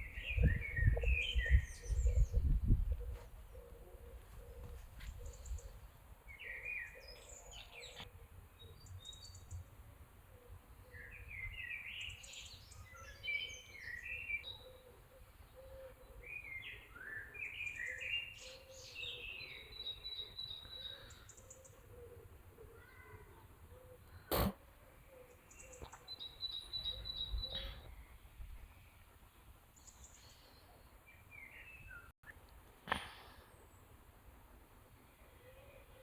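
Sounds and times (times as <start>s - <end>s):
songbirds chirping and trilling: 0.0s - 32.4s, 33.3s - 36.0s.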